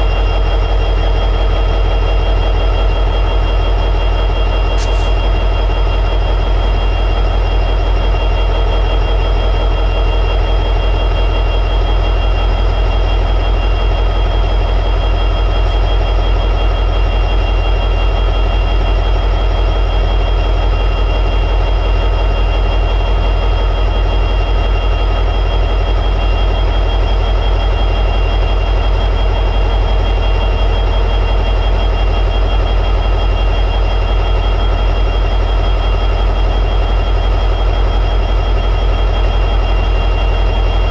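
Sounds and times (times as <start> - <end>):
diesel locomotive engine idling: 0.0 - 40.9.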